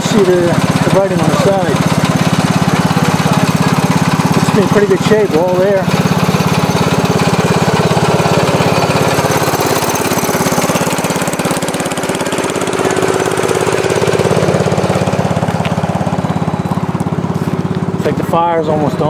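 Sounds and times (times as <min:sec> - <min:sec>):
small gasoline engine running: 0:00.0 - 0:19.0.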